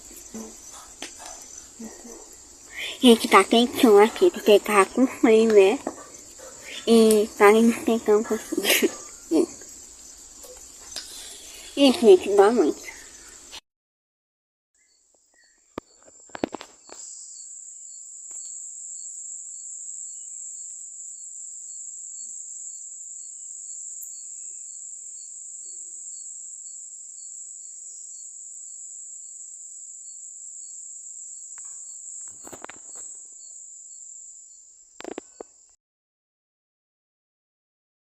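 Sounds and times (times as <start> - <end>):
crickets chirring: 0.0 - 13.6, 14.8 - 35.8.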